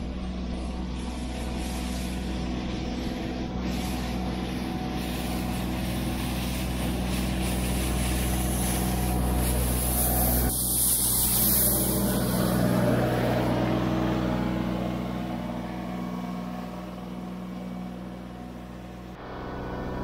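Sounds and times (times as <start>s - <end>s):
rotary broom throwing snow: 0.0s - 20.0s
tractor diesel engine running: 0.0s - 20.0s.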